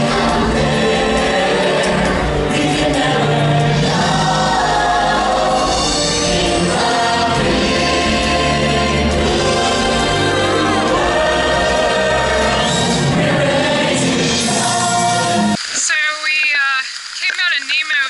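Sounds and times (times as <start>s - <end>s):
voices singing together: 0.0s - 15.6s.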